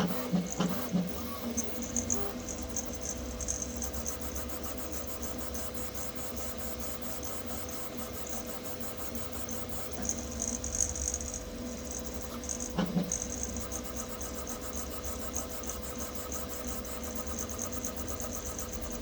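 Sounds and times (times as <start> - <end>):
three d printer humming: 0.0 - 19.0.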